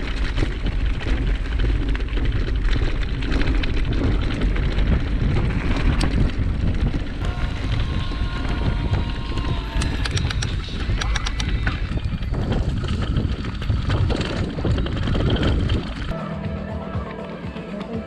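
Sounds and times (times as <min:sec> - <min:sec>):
bike clattering over rough ground: 0:00.0 - 0:16.2
wind buffeting microphone: 0:00.0 - 0:16.2.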